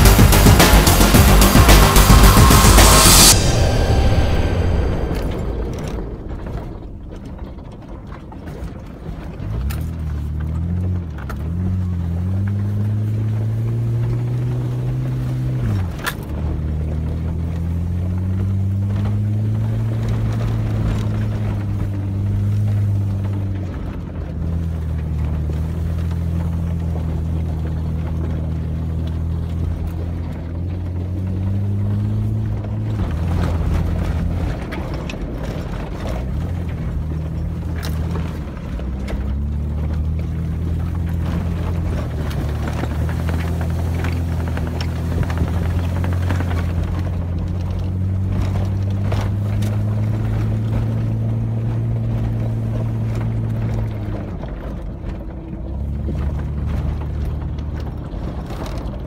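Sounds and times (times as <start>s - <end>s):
truck engine running at low speed: 0.0s - 59.0s
truck jolting over rocks: 5.9s - 59.0s.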